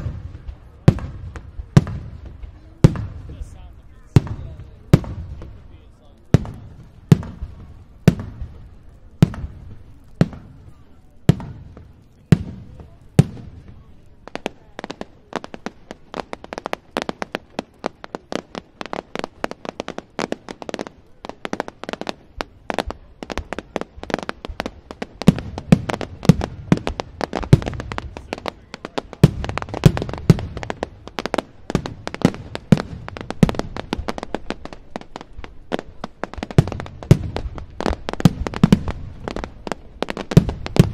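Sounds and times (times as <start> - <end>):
firework bangs: 0.0 - 40.9
firework crackle: 0.0 - 40.9.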